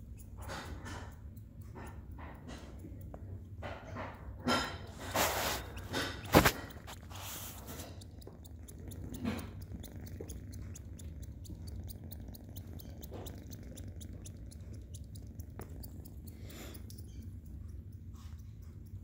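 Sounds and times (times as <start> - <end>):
kitten suckling wet clicks: 0.0 - 19.0.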